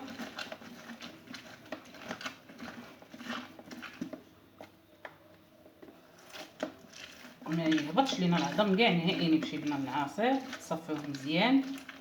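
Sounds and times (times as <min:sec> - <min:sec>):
orange squelching on citrus juicer: 0:00.0 - 0:12.0.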